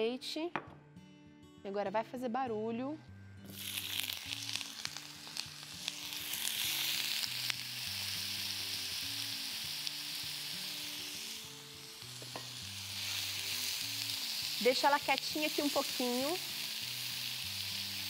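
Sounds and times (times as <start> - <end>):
sausage sizzling in oil: 3.5 - 18.0.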